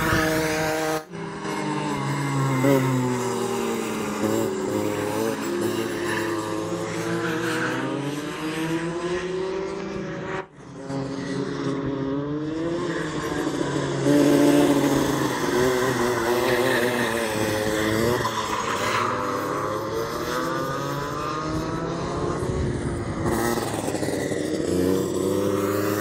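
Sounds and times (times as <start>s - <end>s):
two-stroke kart engines running: 0.0s - 8.6s, 9.3s - 26.0s.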